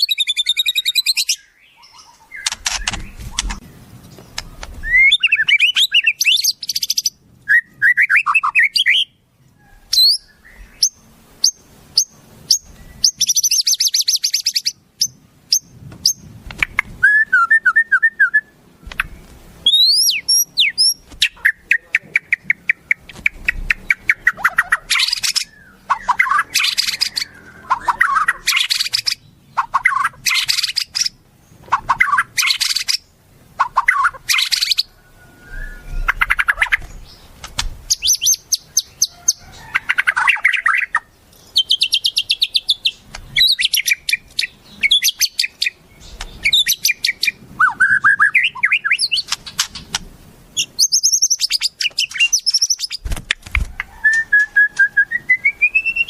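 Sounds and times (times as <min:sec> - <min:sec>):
bird song with whistles and trills: 0:00.0 - 0:37.3, 0:37.9 - 0:49.9, 0:50.6 - 0:53.1, 0:53.8 - 0:56.0.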